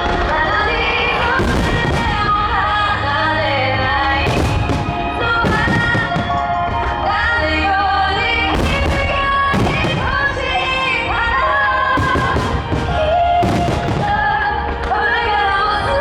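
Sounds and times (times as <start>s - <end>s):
fireworks bursting: 0.0s - 15.8s
woman singing song: 0.0s - 16.0s.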